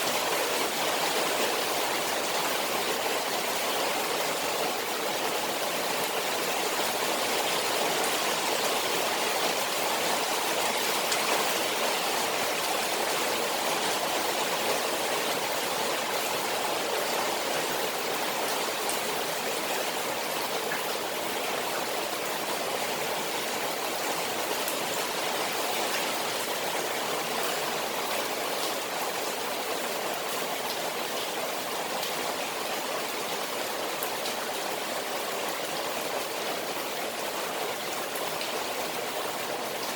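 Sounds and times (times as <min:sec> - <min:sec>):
rain hissing on pond: 0:00.0 - 0:39.9.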